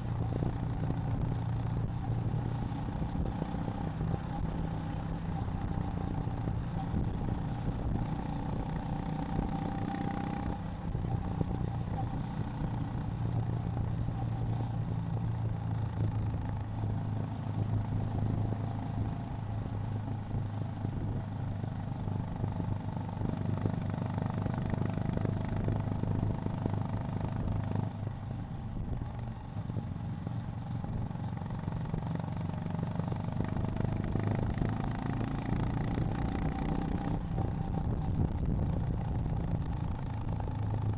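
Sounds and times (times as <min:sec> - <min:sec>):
motorcycle engine at low revs: 0:00.0 - 0:40.9.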